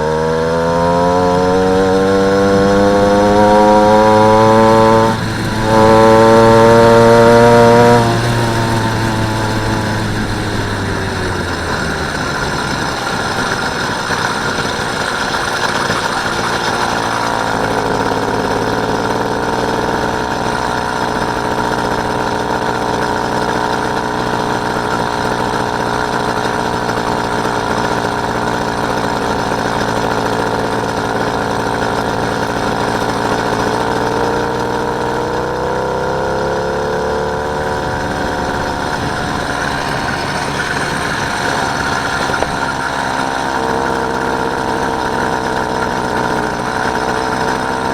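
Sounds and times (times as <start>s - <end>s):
small motorbike engine running: 0.0s - 47.9s.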